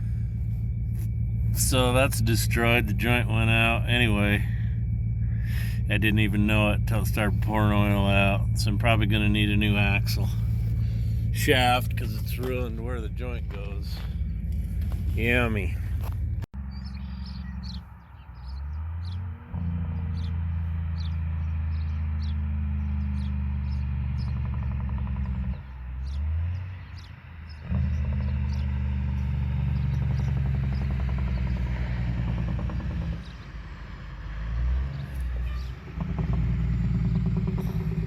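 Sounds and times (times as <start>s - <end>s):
truck engine shifting gears: 0.0s - 38.0s.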